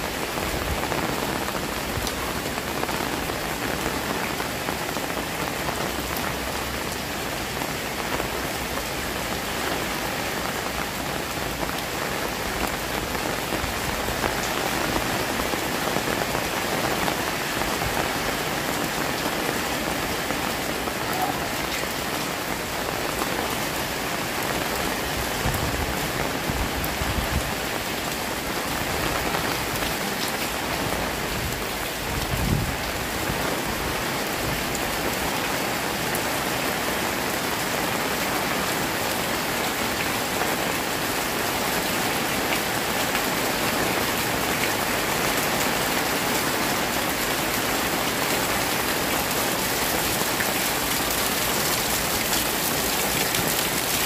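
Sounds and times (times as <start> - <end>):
heavy rain splashing into water: 0.0 - 54.0.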